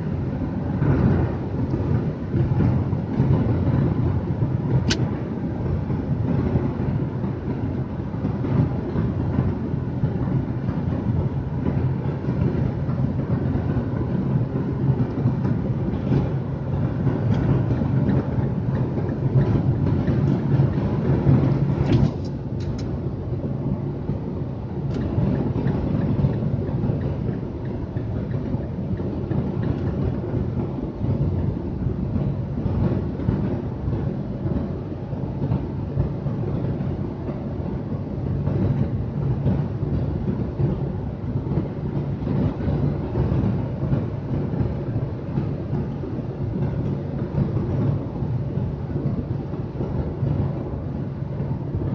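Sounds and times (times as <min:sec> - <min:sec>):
constant low hum: 0:00.0 - 0:51.9.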